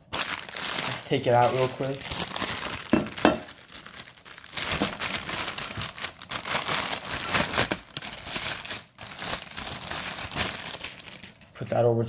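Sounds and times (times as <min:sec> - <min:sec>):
packing materials crinkling: 0:00.0 - 0:11.9.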